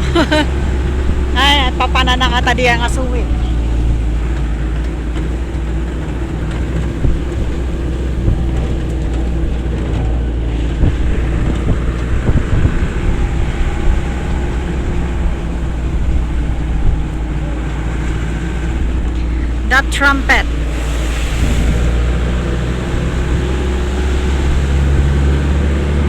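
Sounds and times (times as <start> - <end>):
vehicle engine rumble: 0.0 - 26.0
wind buffeting microphone: 0.0 - 26.0.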